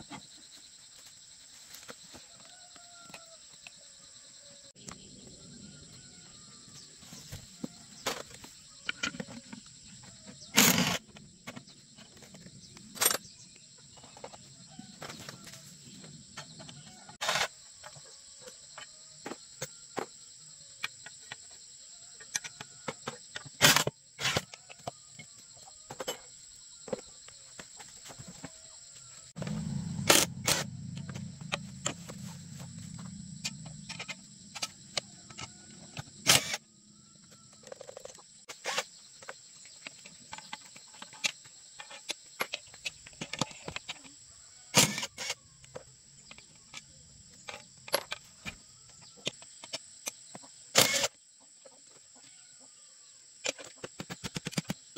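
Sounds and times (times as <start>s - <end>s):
crickets droning: 0.0s - 54.9s.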